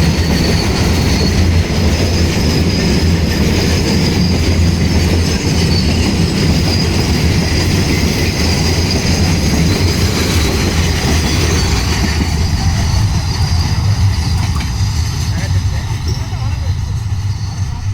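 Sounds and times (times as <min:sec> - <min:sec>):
high-pitched wheel squeal: 0:00.0 - 0:17.9
train wheels rumbling on rails: 0:00.0 - 0:17.9.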